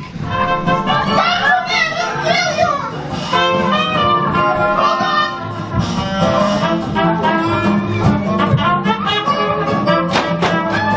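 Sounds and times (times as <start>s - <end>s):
instrumental music: 0.0s - 10.9s.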